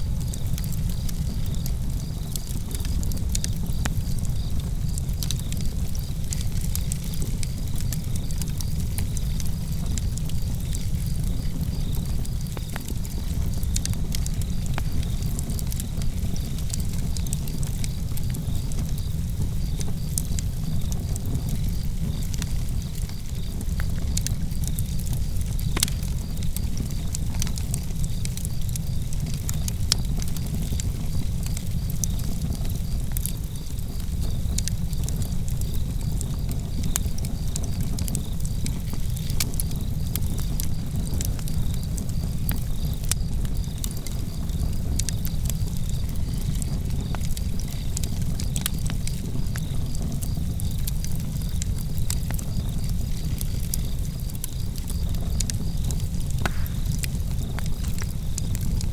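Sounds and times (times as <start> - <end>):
campfire crackling and popping: 0.0 - 58.9
crickets chirping: 0.0 - 58.9.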